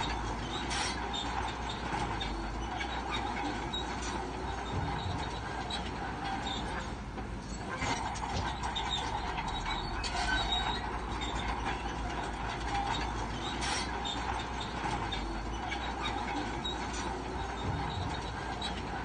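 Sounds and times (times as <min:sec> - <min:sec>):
bulldozer engine running: 0:00.0 - 0:19.0
steel tracks squeaking and clanking: 0:00.0 - 0:19.0.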